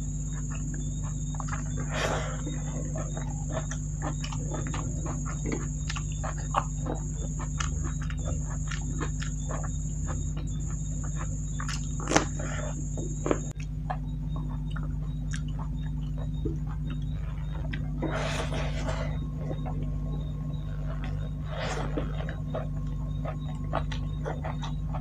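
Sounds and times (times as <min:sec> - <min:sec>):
constant low hum: 0:00.0 - 0:25.0
steady high-pitched whine: 0:00.0 - 0:25.0
wet chewing and lip-smacking: 0:00.0 - 0:25.0.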